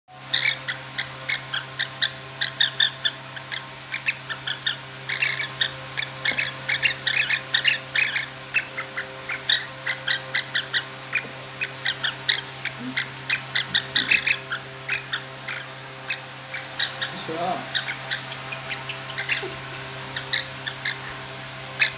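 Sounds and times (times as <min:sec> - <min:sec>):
faint steady hum: 0:00.1 - 0:21.9
cockatiel chirping: 0:00.2 - 0:21.9.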